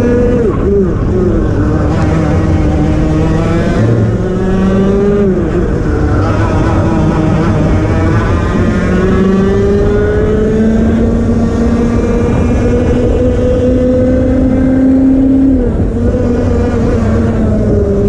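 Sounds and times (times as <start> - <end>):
kart engine at full throttle: 0.0 - 18.0.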